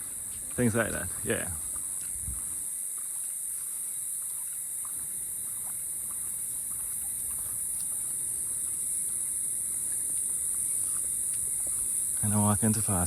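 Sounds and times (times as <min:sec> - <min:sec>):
night insects trilling: 0:00.0 - 0:13.0
faint ticks: 0:01.6 - 0:12.9.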